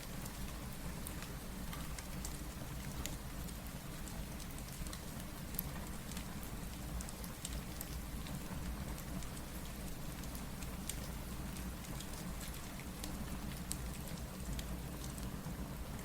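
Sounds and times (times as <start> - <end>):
sharp crackles and pops: 0.0 - 15.3
steady rain falling: 0.0 - 16.0.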